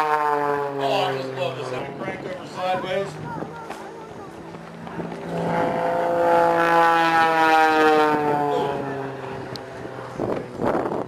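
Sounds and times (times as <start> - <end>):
propeller plane passing by: 0.0 - 11.0.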